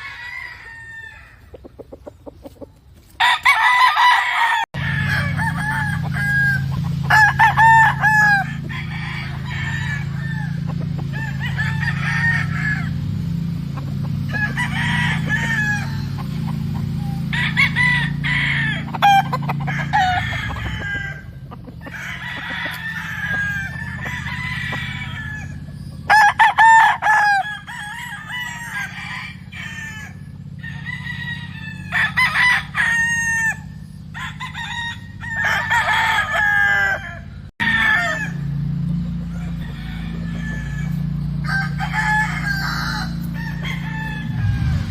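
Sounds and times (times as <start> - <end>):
hens clucking: 0.0 - 3.8, 4.8 - 38.3
roosters crowing: 0.0 - 44.9.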